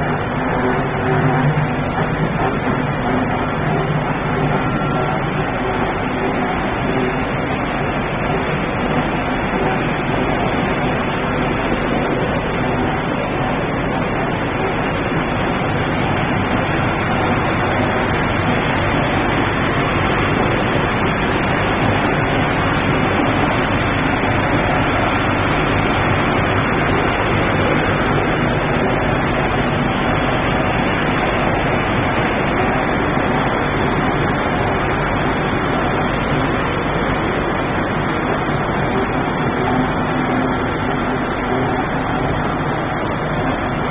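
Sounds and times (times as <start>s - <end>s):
steady machinery noise: 0.0s - 43.9s.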